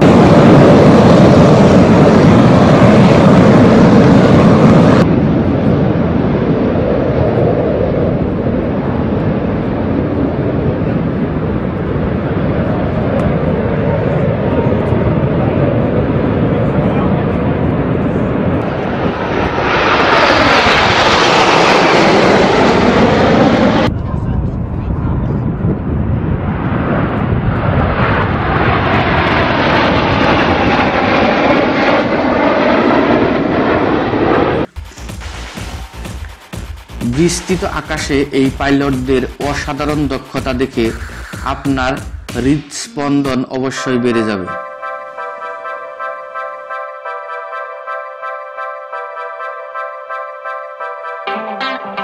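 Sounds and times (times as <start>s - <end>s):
airplane engine roar: 0.0s - 43.0s, 43.8s - 52.0s.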